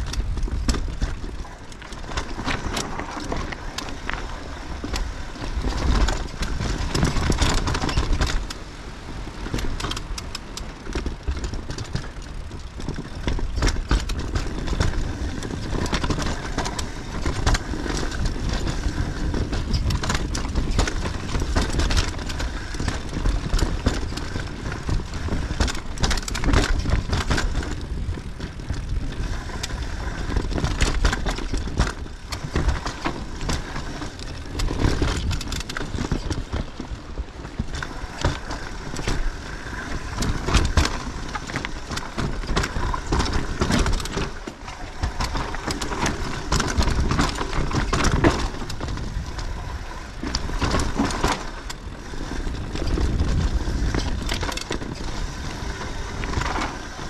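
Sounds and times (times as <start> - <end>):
bike rattling and knocking: 0.0 - 57.0
bike tyres rolling over dirt: 0.0 - 57.0
steady low rumble: 0.0 - 57.0.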